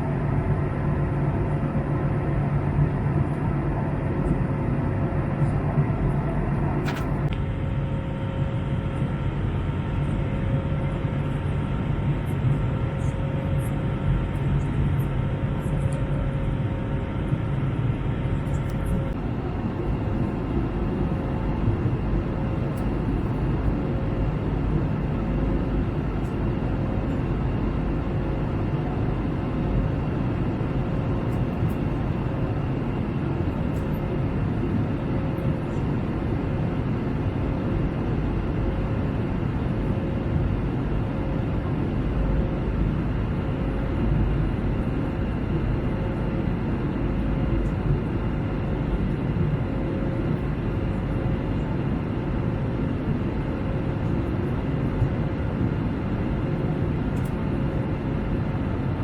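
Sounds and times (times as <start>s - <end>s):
airliner cabin engine roar: 0.0s - 59.0s
faint steady hum: 0.0s - 59.0s.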